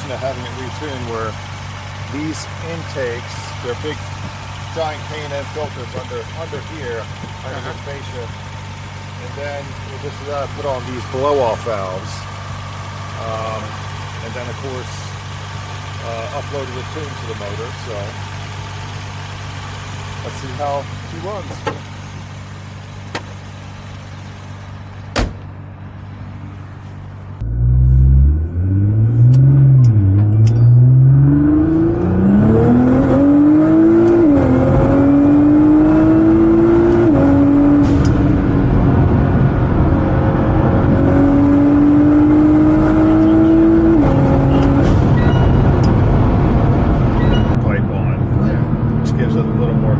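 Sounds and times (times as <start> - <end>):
turbo car engine accelerating: 0.0 - 25.1, 27.4 - 49.9.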